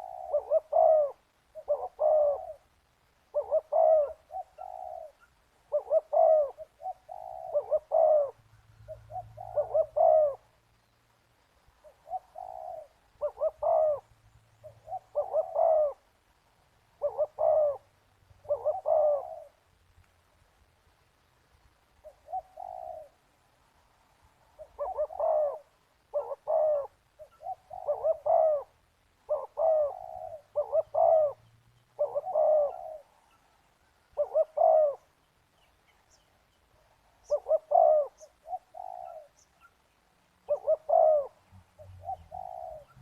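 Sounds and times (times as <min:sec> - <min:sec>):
dove cooing: 0:00.0 - 0:10.6, 0:11.8 - 0:19.6, 0:22.0 - 0:23.4, 0:24.5 - 0:35.2, 0:36.8 - 0:43.0.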